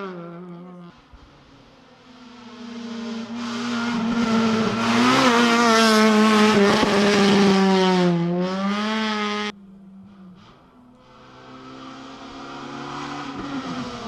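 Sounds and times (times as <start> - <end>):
rally car engine high revs: 0.0 - 9.5, 10.2 - 14.0.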